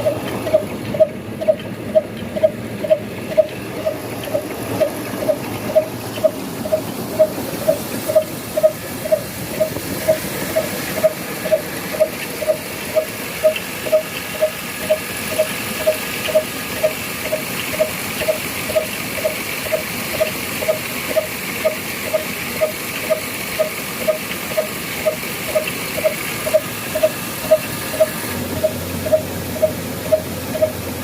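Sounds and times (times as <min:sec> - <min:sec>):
diesel engine running slowly: 0:00.0 - 0:31.0
hiss of running machinery: 0:00.0 - 0:31.0.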